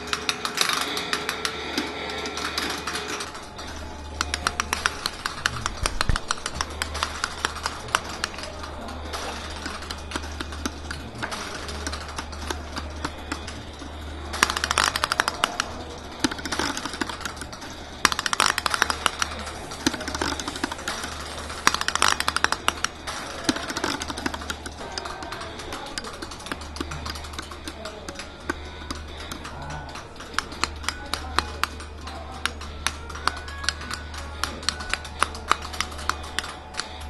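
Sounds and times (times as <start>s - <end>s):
relays clicking: 0.0s - 37.0s
steady low hum: 0.0s - 37.0s.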